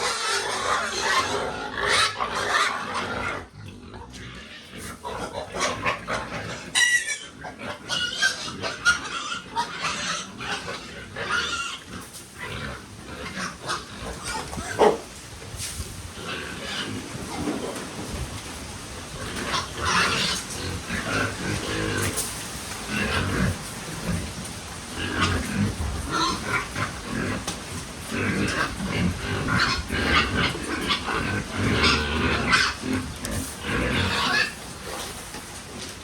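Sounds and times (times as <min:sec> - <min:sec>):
pigs calling: 0:00.0 - 0:15.2, 0:18.8 - 0:35.4.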